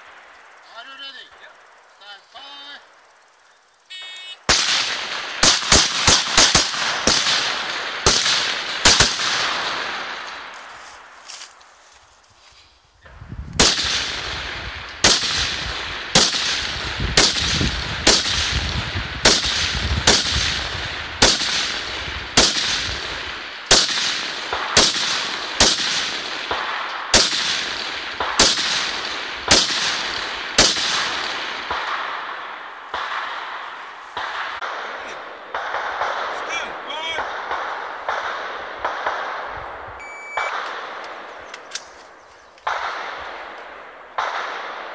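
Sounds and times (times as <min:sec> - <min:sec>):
rifle shots with echo: 0:04.0 - 0:10.6, 0:13.6 - 0:44.9.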